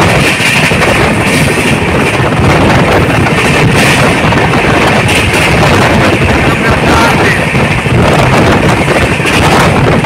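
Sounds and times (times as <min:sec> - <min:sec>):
train rumbling at speed: 0:00.0 - 0:10.0
wind buffeting microphone: 0:00.0 - 0:10.0.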